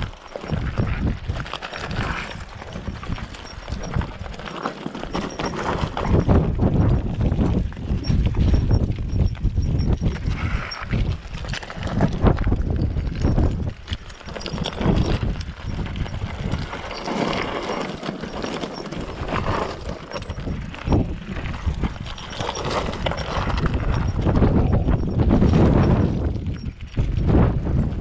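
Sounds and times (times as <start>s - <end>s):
bike rattling: 0.0s - 28.0s
tyres crunching over loose stones: 0.0s - 28.0s
wind rumbling on microphone: 0.0s - 28.0s.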